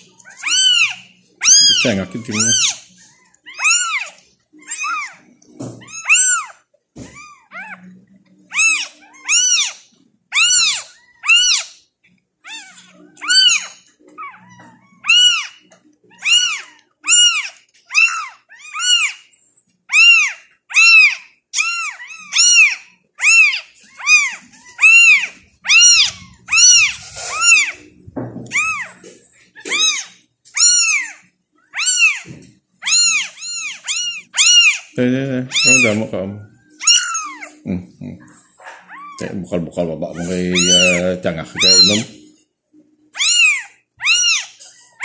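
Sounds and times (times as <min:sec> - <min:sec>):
kittens mewing: 0:00.0 - 0:11.8, 0:12.4 - 0:19.3, 0:19.9 - 0:42.3, 0:43.1 - 0:45.0.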